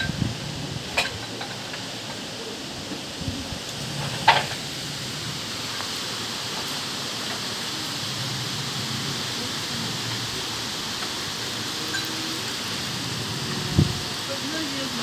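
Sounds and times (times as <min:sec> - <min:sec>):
rain: 0:00.0 - 0:15.0
storm wind: 0:00.0 - 0:15.0.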